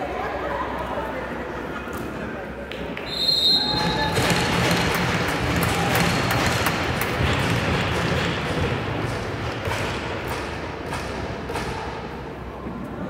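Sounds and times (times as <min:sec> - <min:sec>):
reverberant arena crowd hubbub: 0:00.0 - 0:13.0.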